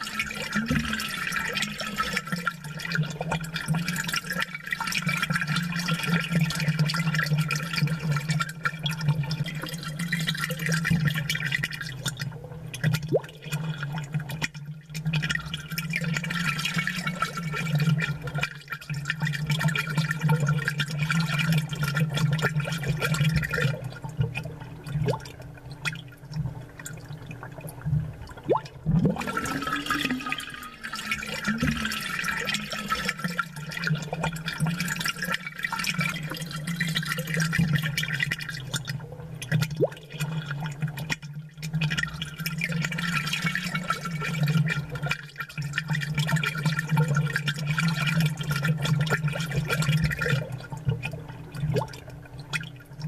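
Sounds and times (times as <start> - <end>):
aquarium bubbles gurgling: 0.0 - 53.0.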